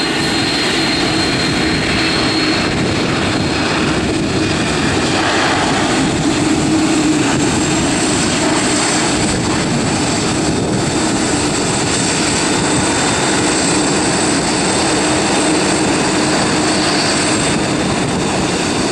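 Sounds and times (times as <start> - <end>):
jet engines running: 0.0 - 18.9.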